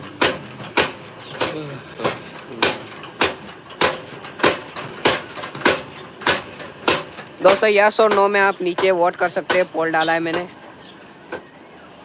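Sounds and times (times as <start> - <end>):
hammer striking metal: 0.0 - 10.6.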